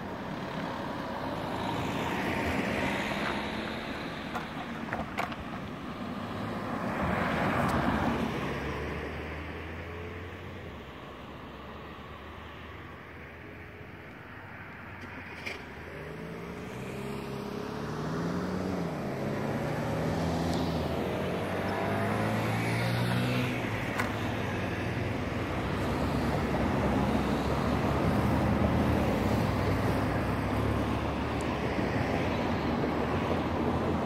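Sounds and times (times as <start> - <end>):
traffic hum: 0.0 - 34.0.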